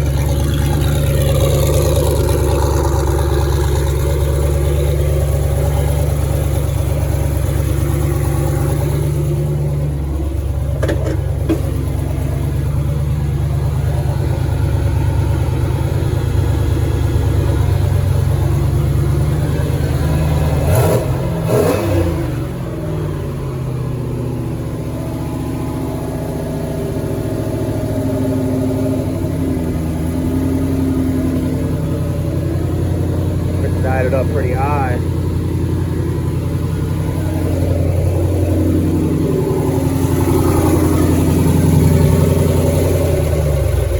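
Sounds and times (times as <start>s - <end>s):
car engine fast idle: 0.0s - 43.9s.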